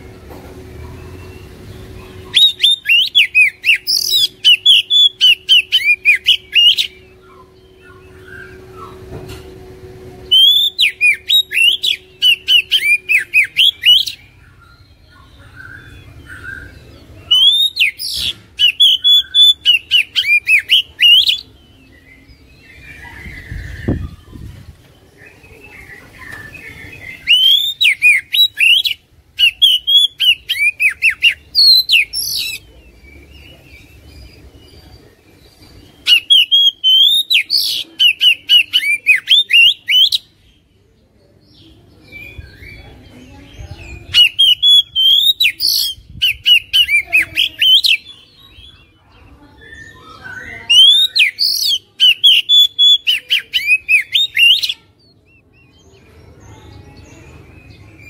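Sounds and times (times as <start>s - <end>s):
bird singing rapid notes: 0.0s - 40.4s, 42.0s - 56.4s.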